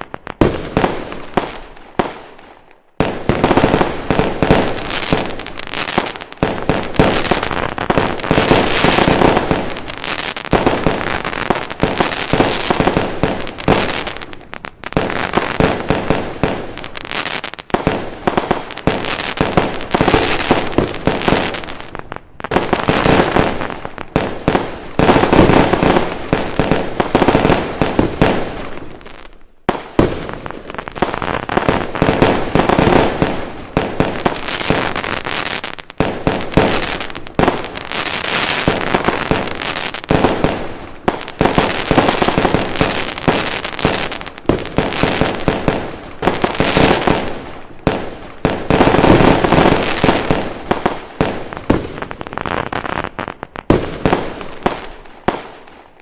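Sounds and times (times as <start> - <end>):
crackling firecrackers: 0.0 - 56.0
fireworks bangs and booms: 0.0 - 56.0.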